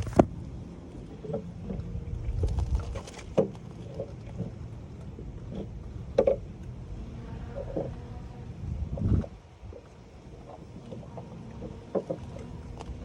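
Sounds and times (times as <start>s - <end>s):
low rumbling: 0.0s - 13.0s
water sloshing: 0.0s - 13.0s.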